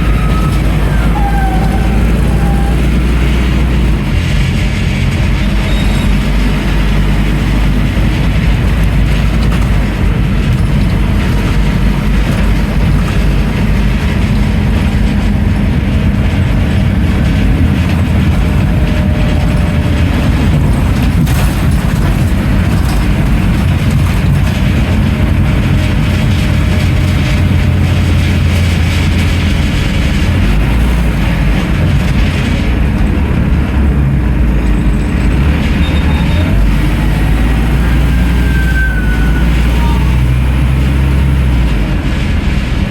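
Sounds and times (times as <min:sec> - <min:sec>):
bus engine and road noise: 0:00.0 - 0:42.9.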